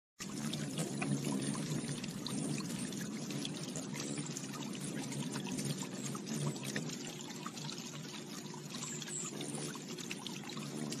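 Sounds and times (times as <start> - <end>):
fountain water splashing: 0.2 - 11.0.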